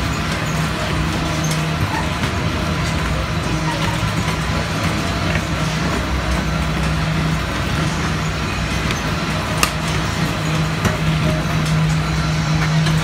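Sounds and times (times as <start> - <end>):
carousel mechanical hum: 0.0 - 13.0.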